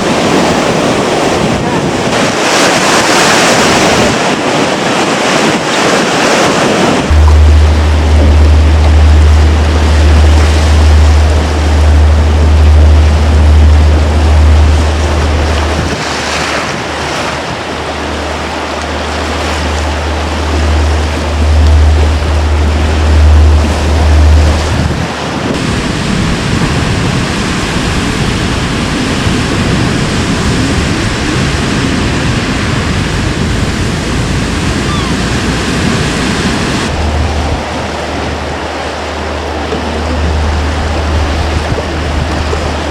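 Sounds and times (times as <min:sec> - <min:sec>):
strong wind: 0:00.0 - 0:42.9
waves breaking: 0:00.0 - 0:42.9
wind rumble on microphone: 0:00.0 - 0:42.9.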